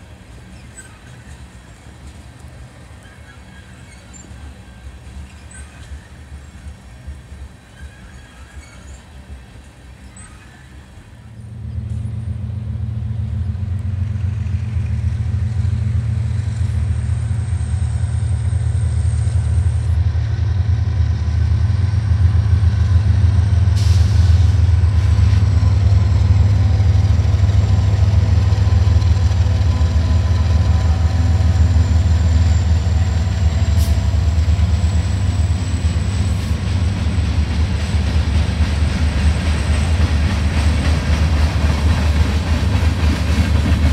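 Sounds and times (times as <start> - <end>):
diesel locomotive engine drone: 0.0 - 43.9.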